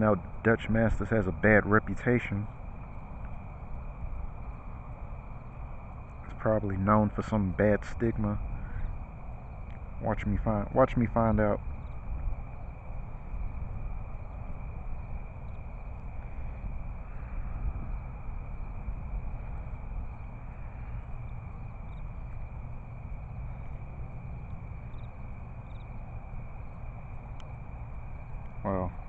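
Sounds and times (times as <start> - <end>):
insects trilling: 0.0 - 29.0
low rumble: 0.0 - 29.0.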